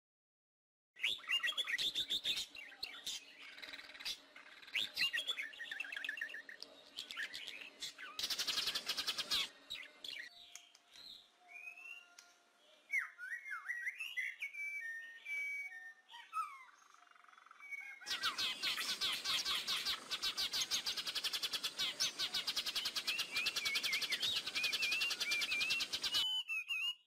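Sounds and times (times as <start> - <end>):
forest birds singing and calling: 1.0 - 27.0.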